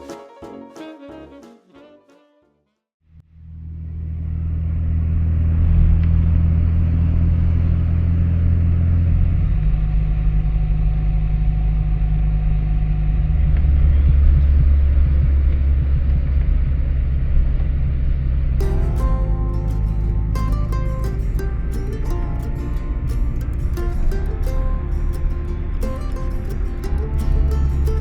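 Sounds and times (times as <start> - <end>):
car engine driving: 3.6 - 28.0.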